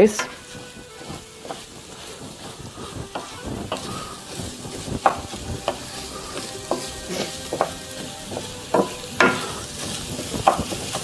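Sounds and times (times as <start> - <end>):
rice sizzling in pan: 0.0 - 11.0
wooden spoon scraping pan: 0.0 - 11.0.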